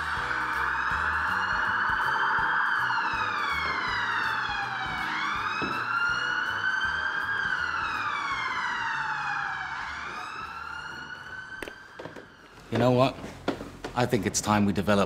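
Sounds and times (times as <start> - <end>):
emergency siren wailing: 0.0 - 13.2.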